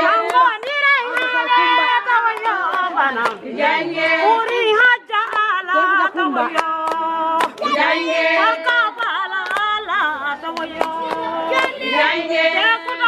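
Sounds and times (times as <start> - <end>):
women singing unaccompanied: 0.0 - 13.0.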